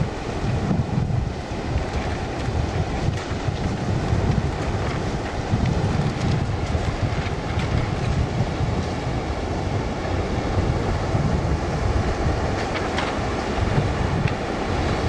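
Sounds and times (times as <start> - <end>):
small waves on sandy beach: 0.0 - 15.0
wind on microphone: 0.0 - 15.0.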